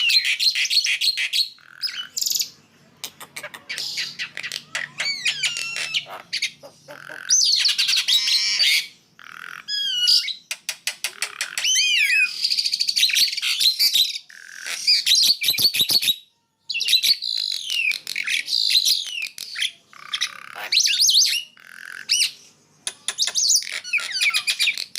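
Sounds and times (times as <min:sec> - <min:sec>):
songbirds singing: 0:00.0 - 0:24.9.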